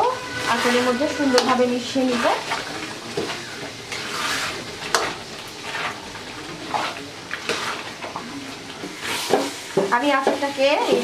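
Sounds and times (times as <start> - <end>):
pickle bubbling and sizzling in oil: 0.0 - 11.0
spatula scraping pan: 0.0 - 11.0.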